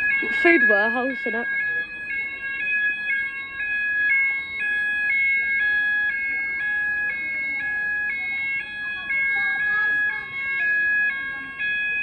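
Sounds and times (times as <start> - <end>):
fire alarm steady tone: 0.0 - 12.0
fire alarm two-tone warble: 0.0 - 12.0.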